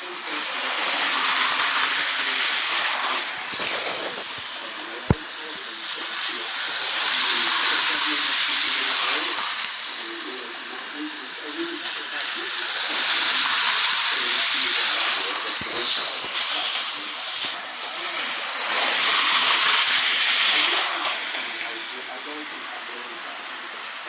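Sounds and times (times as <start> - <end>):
faint voices: 0.0 - 24.0
hissing: 0.0 - 24.0.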